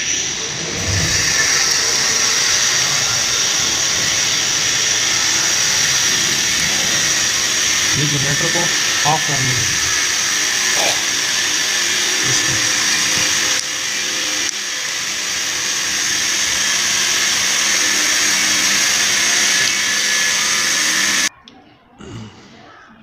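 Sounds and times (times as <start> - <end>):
motor-driven machine whirring: 0.0 - 21.3.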